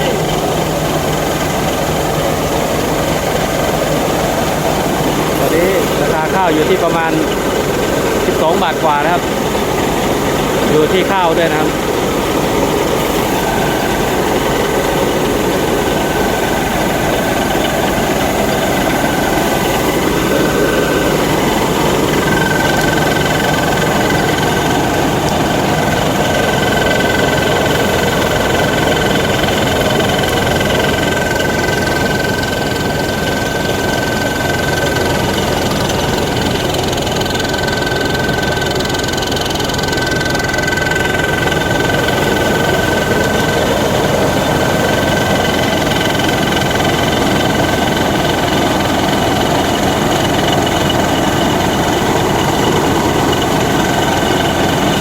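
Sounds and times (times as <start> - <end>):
combine harvester diesel engine: 0.0 - 55.0
high-pitched whine: 0.0 - 55.0.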